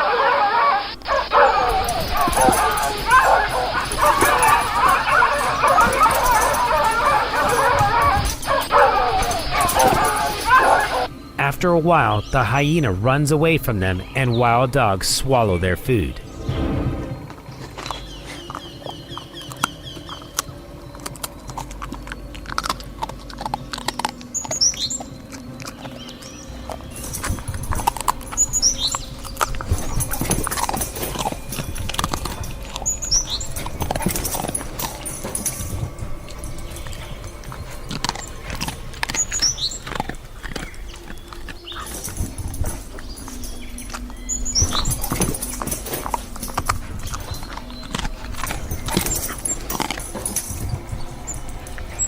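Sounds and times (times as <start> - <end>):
wild dogs scuffling and feeding: 0.0 - 52.0.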